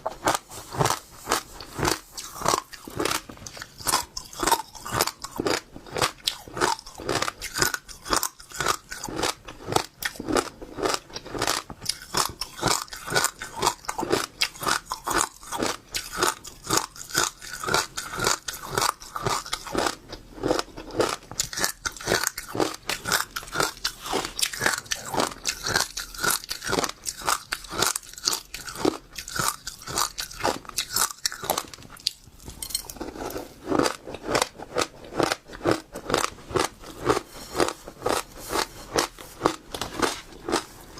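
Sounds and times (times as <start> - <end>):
seeds crunching while chewed: 0.0 - 40.9.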